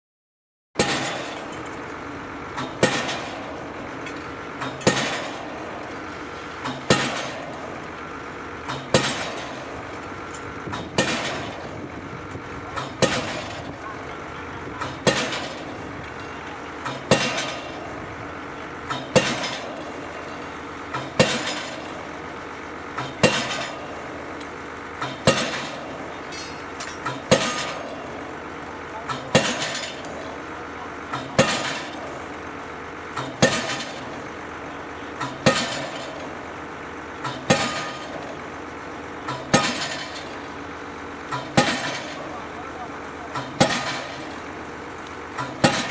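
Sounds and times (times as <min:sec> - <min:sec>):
pile-driving hammer blows: 0:00.8 - 0:45.9
steady machine drone: 0:00.8 - 0:45.9.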